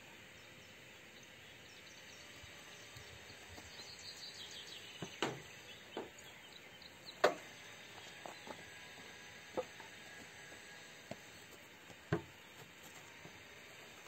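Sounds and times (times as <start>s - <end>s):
birds chirping faintly: 0.0s - 14.0s
steady outdoor hiss: 0.0s - 14.0s.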